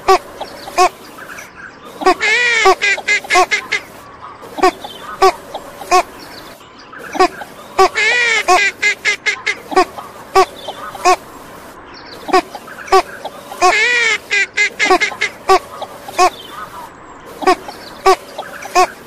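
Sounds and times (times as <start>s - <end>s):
duck quacking: 0.0s - 1.4s, 2.0s - 3.9s, 4.5s - 6.2s, 7.0s - 11.2s, 12.3s - 19.0s.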